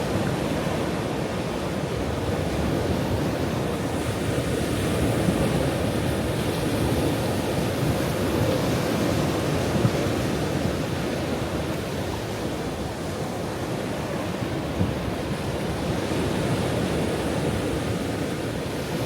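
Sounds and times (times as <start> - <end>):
ocean waves washing on shore: 0.0 - 19.0.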